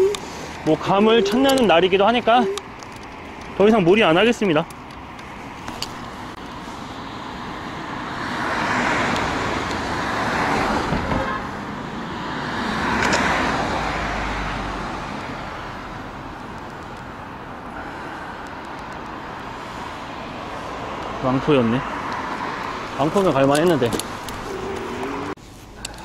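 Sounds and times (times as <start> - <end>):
cars passing: 0.0 - 26.0
low traffic hum: 0.0 - 26.0.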